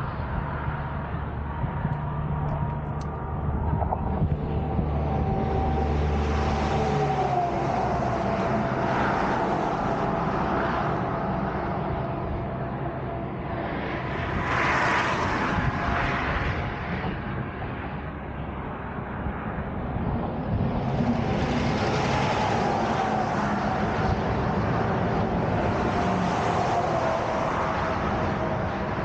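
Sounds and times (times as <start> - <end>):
highway traffic rumble: 0.0 - 29.0.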